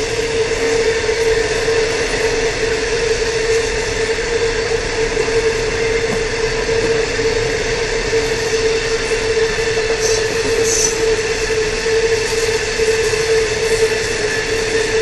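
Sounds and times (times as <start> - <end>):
continuous whining tone: 0.0 - 15.0
train rumbling on rails: 0.0 - 15.0.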